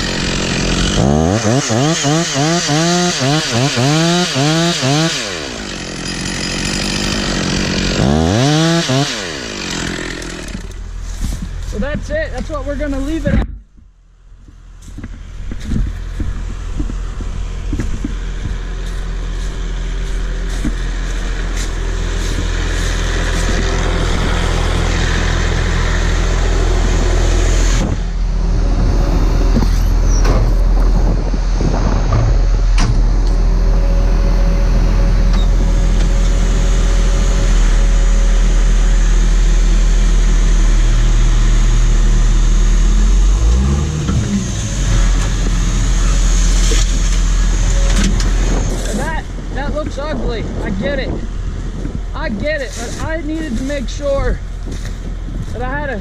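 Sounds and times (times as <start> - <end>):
engine idling: 0.0 - 1.2, 5.2 - 56.0.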